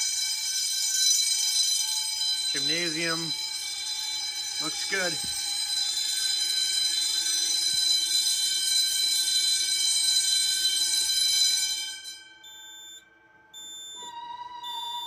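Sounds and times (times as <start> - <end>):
faint steady electronic tone: 0.0 - 15.0
fire alarm bells ringing: 0.0 - 15.0.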